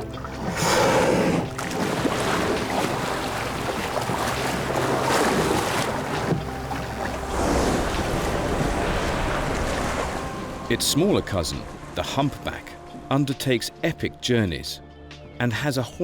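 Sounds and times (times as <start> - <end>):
waves washing: 0.0 - 13.5.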